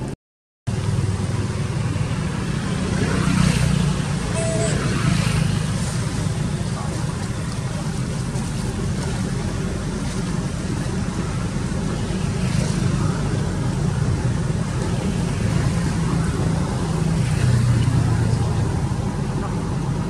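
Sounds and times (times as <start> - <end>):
low rumble of noise: 0.7 - 20.0.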